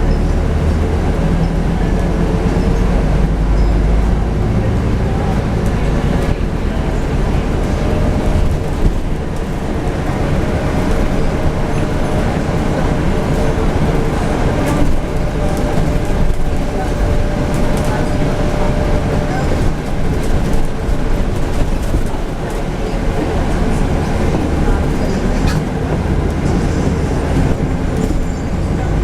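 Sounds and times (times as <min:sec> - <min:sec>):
bus diesel engine: 0:00.0 - 0:29.0
road rumble: 0:00.0 - 0:29.0.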